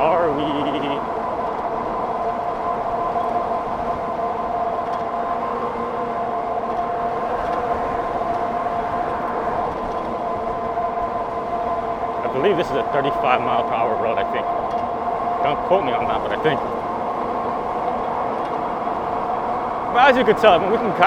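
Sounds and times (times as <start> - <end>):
electric motor whining: 0.0 - 21.0
wind and road noise: 0.0 - 21.0.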